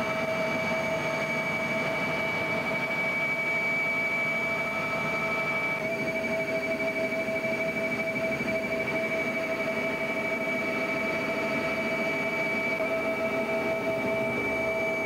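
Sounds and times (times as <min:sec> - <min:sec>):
helicopter engine and rotor: 0:00.0 - 0:15.0
high turbine whine: 0:00.0 - 0:15.0.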